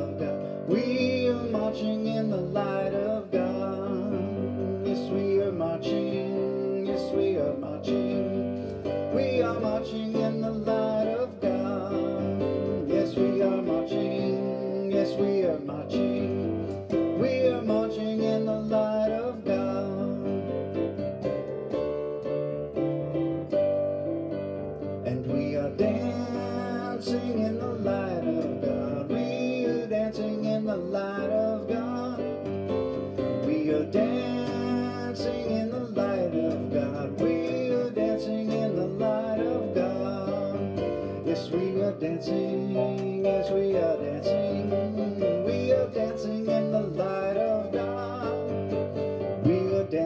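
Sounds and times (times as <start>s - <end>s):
worship music on electronic keyboard: 0.0s - 50.0s.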